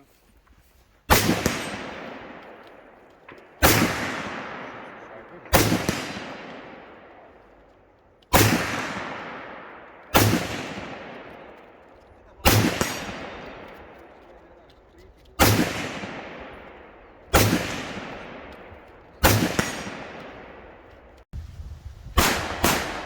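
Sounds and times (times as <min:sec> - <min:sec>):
rifle shots echoing: 0:01.1 - 0:21.2, 0:22.2 - 0:23.0.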